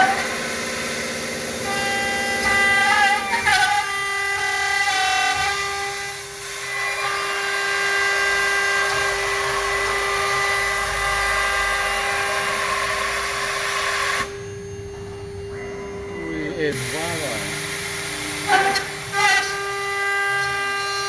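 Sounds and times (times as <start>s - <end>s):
milling machine spindle whining: 0.0s - 21.0s.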